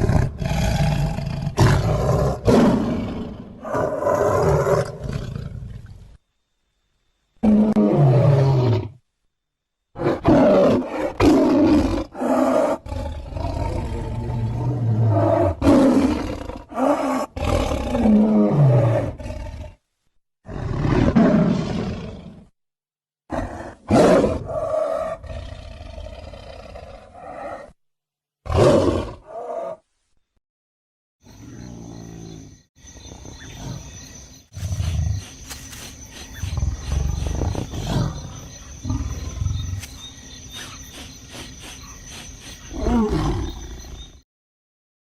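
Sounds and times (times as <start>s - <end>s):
big cat roars and snarls: 0.0s - 6.0s, 7.4s - 9.0s, 10.0s - 19.8s, 20.4s - 22.5s, 23.3s - 27.8s, 28.4s - 29.8s, 31.3s - 44.2s.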